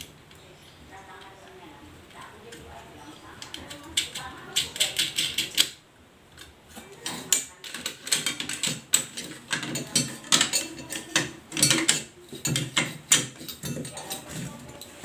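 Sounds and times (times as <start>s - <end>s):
hand tools clicking and rattling: 2.4s - 15.0s.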